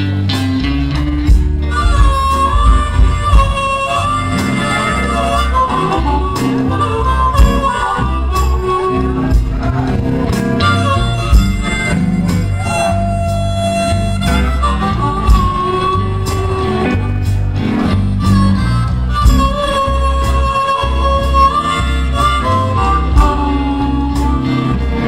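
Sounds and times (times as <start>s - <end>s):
lead guitar held notes: 0.0s - 25.0s
slow blues band playing: 0.0s - 25.0s.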